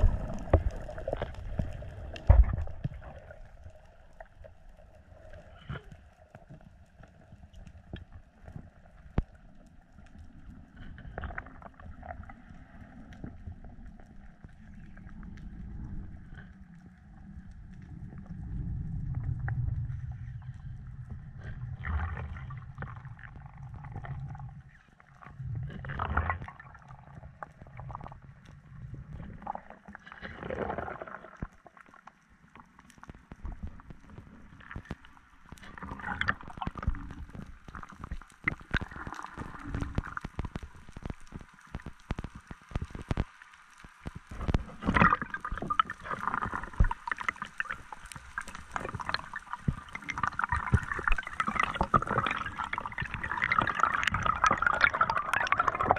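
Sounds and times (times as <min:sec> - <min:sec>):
underwater gurgling and sloshing: 0:00.0 - 0:55.9.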